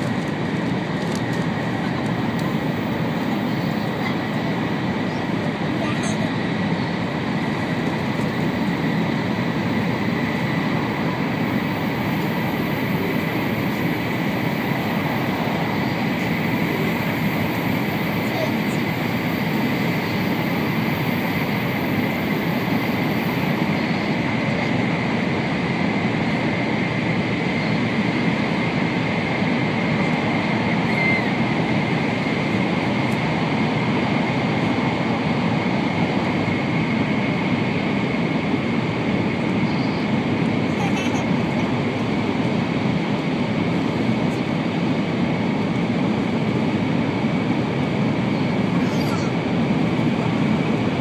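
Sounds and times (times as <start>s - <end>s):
train running noise in tunnel: 0.0s - 51.0s.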